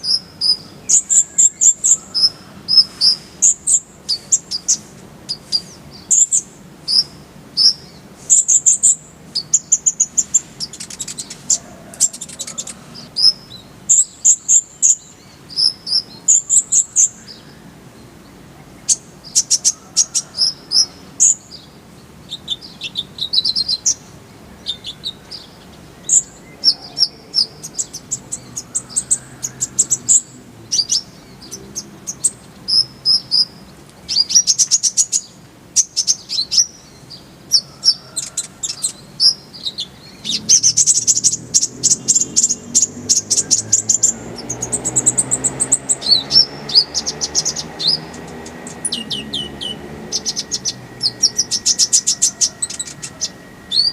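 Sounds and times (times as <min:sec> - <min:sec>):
small bird twittering and trilling: 0:00.0 - 0:53.9.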